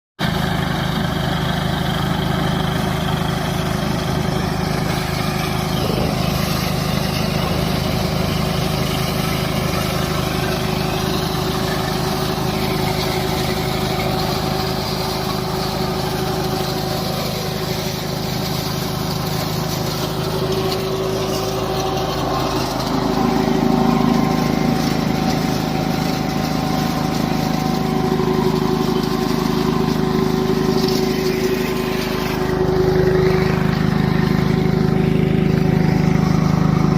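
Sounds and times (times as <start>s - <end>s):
combine harvester running: 0.2s - 36.9s.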